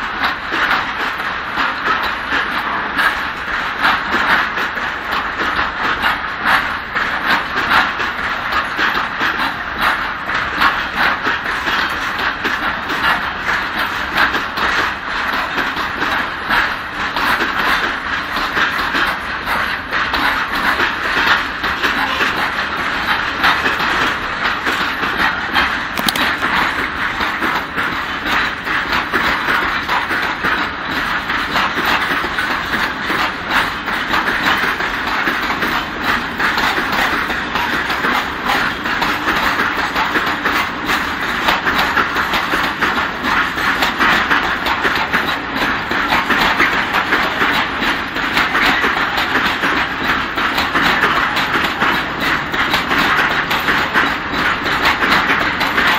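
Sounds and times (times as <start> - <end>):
freight train wheels clattering: 0.0 - 55.9.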